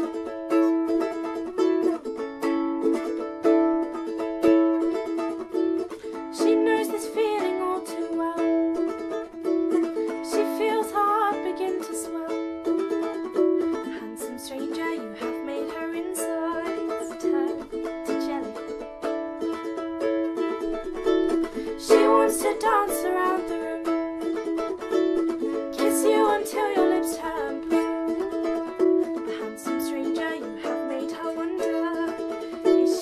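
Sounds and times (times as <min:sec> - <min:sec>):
plucked string instrument strumming: 0:00.0 - 0:33.0.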